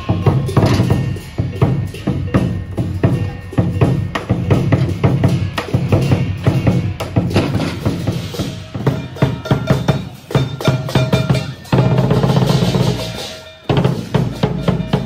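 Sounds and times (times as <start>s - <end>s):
cymbals clashing: 0.0s - 15.0s
large drum beaten fast: 0.0s - 15.0s.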